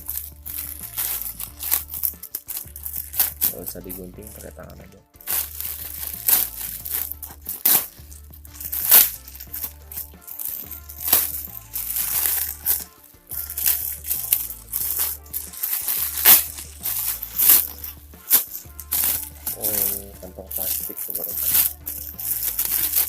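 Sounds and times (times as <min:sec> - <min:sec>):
background music with bass: 0:00.0 - 0:23.0
plastic bag crinkling and ripping: 0:00.0 - 0:23.0.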